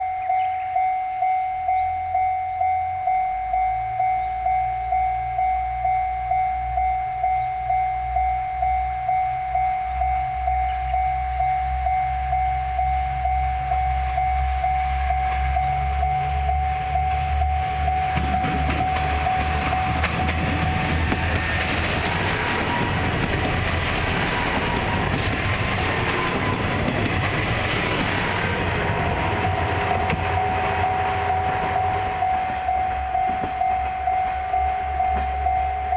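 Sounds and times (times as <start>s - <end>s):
diesel railcar engine drone: 0.0s - 35.9s
level-crossing warning bell: 0.0s - 35.9s
train wheel noise: 0.0s - 35.9s.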